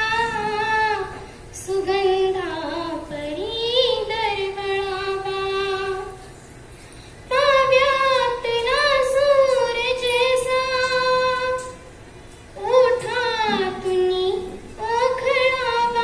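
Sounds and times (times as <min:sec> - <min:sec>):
girl singing with vibrato: 0:00.0 - 0:06.4, 0:07.3 - 0:11.9, 0:12.5 - 0:16.0.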